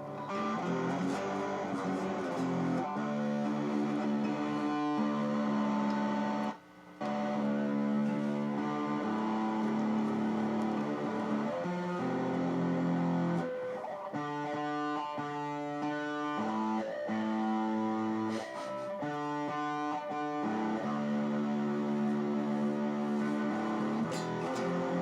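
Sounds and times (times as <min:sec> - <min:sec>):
electric guitar held notes: 0:00.0 - 0:25.0.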